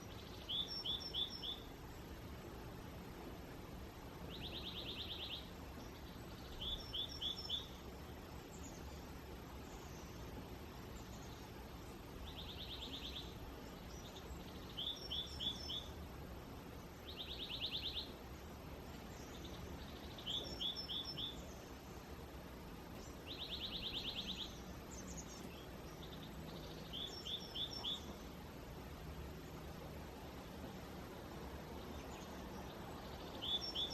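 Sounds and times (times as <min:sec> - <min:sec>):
low background rumble: 0:00.0 - 0:33.9
songbirds trilling and chirping: 0:00.0 - 0:33.9.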